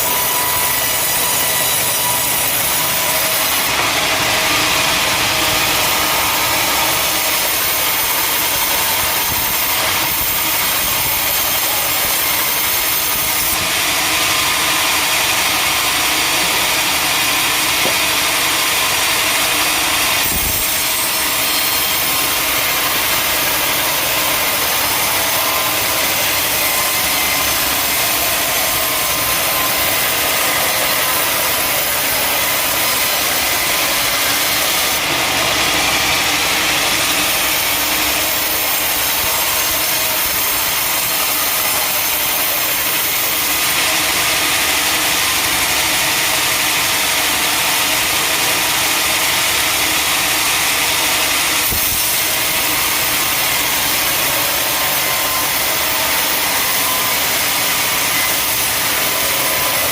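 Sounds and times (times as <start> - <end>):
saw cutting through wood: 0.0 - 59.9
sawmill machinery drone: 0.0 - 59.9.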